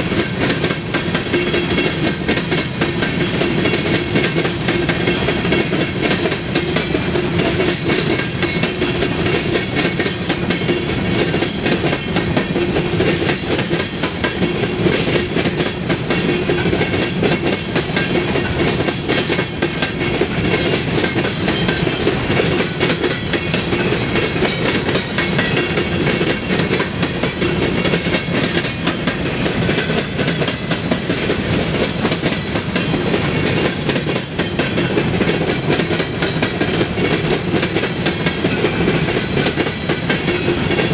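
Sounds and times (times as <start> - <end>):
train rumble: 0.0 - 40.9
train wheels clattering on rails: 0.0 - 40.9.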